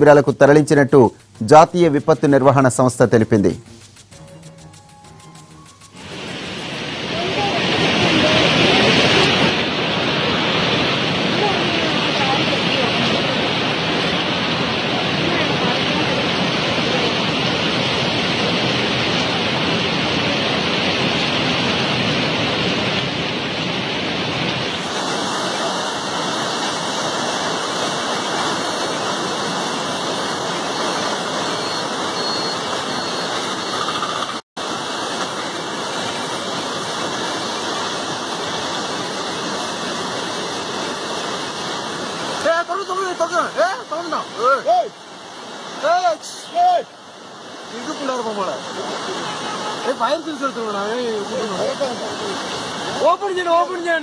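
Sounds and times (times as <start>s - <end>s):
floodwater rushing in a river: 6.0s - 54.0s.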